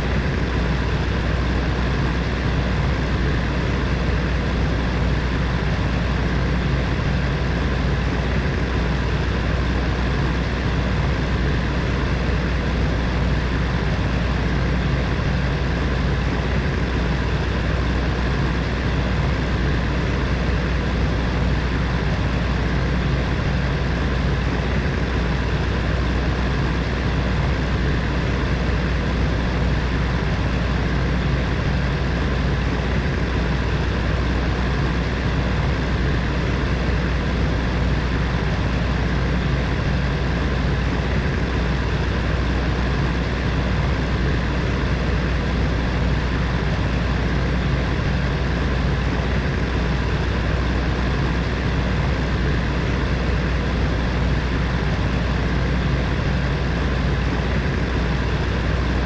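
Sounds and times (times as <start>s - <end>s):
heater fan running: 0.0s - 59.0s.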